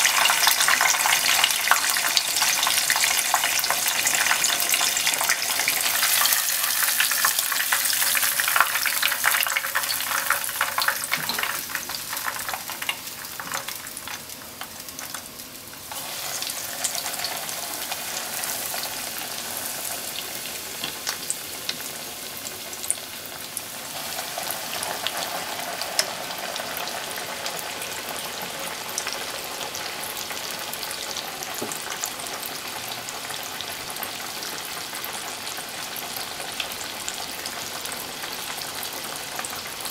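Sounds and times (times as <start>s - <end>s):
cutlet sizzling in hot oil: 0.0s - 39.9s.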